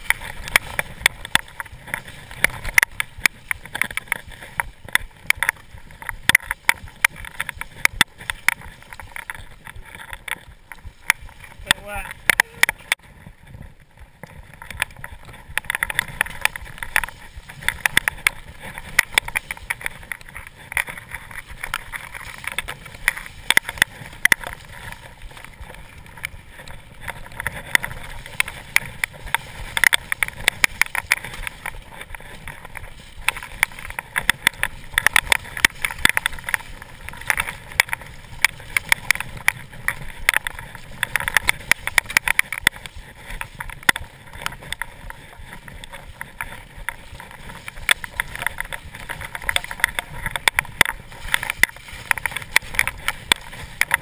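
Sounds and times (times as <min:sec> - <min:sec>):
bike rattling over rough ground: 0:00.0 - 0:54.0
bike splashing through water: 0:00.0 - 0:54.0.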